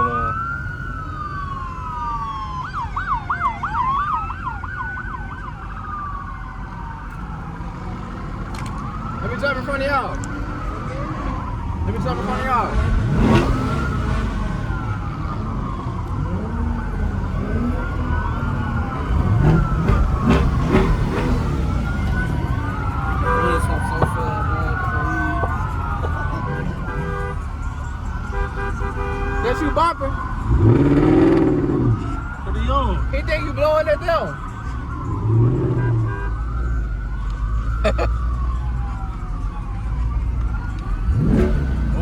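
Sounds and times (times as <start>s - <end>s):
low vehicle rumble: 0.0s - 42.0s
police siren fast yelp: 0.0s - 42.0s
police siren wail: 0.0s - 42.0s.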